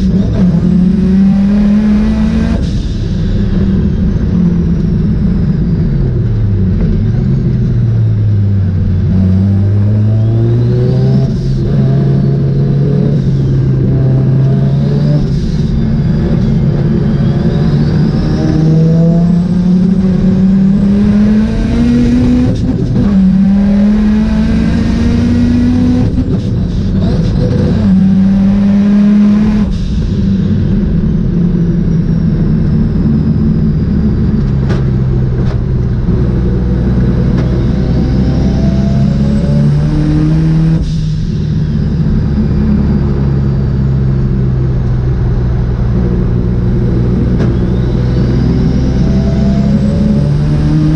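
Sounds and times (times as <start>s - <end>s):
rotary engine accelerating hard: 0.0s - 50.9s.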